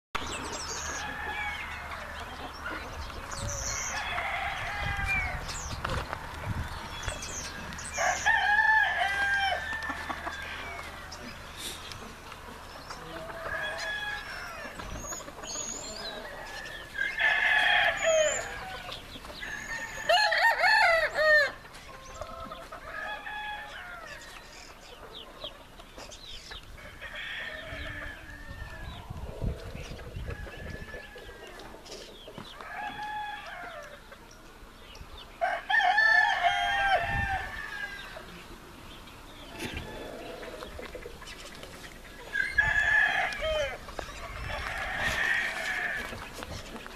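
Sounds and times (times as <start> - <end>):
hens clucking: 0.2 - 34.8, 35.7 - 46.9
roosters crowing: 0.2 - 46.9.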